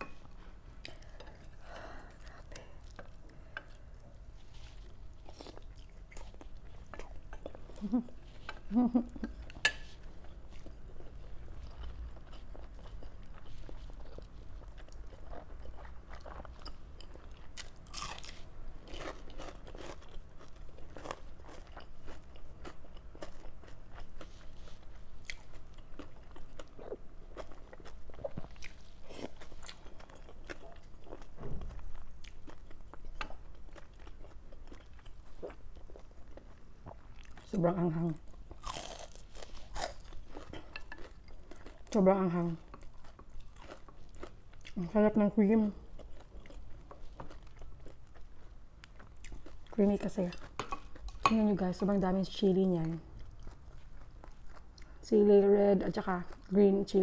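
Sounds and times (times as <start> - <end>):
person chewing: 0.2 - 37.4, 38.2 - 44.8, 45.8 - 51.3, 53.1 - 55.0.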